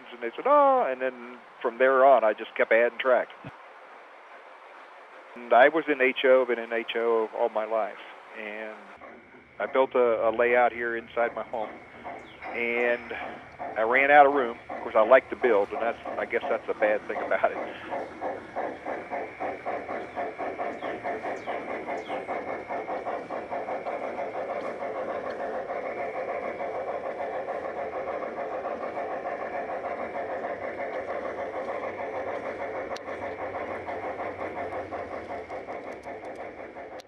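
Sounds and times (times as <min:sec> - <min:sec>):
model steam locomotive chuffing: 0:00.0 - 0:37.0.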